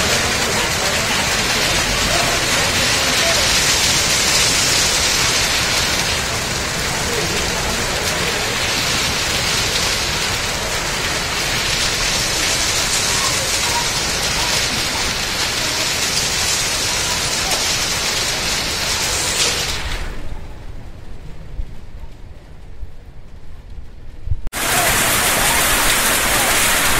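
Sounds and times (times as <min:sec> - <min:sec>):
hailstones ticking: 0:00.0 - 0:20.2, 0:24.5 - 0:26.9
torrential rain hissing: 0:00.0 - 0:22.6, 0:24.5 - 0:26.9.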